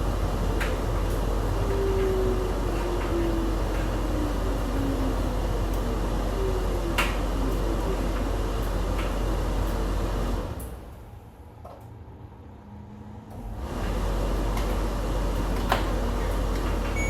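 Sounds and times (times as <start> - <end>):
washing machine humming: 0.0 - 12.3, 13.2 - 17.0.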